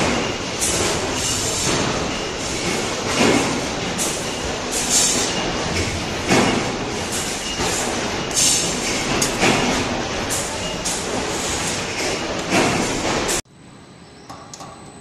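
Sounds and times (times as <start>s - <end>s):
sharp metal clanks and clatters: 0.0s - 13.4s
steady mechanical din: 0.0s - 13.4s.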